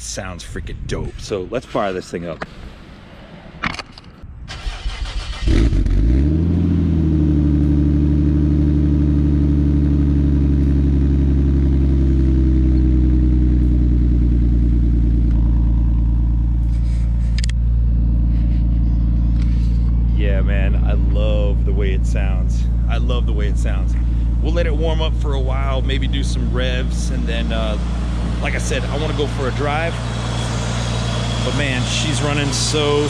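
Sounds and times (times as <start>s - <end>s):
car engine starting and idling: 4.5s - 33.0s.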